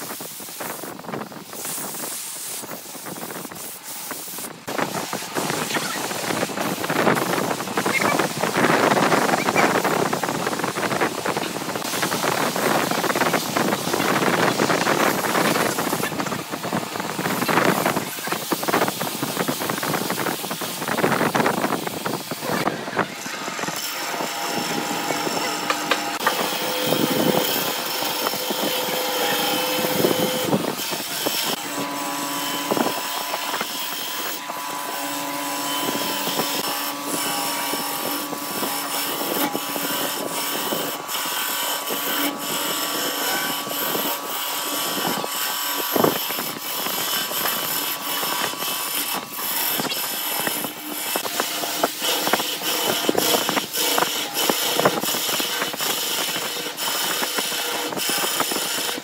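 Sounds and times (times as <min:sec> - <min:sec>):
turning tool cutting hiss: 0:00.0 - 0:59.0
lathe motor hum: 0:02.4 - 0:59.0.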